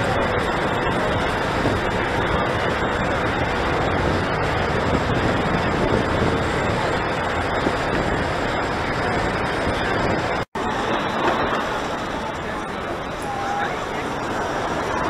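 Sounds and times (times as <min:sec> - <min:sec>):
city traffic and street bustle: 0:00.0 - 0:15.0.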